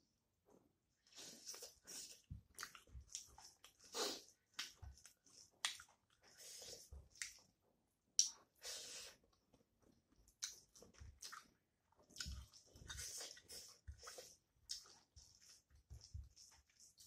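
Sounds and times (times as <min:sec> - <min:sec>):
person chewing food: 0:01.1 - 0:07.6, 0:08.2 - 0:17.0.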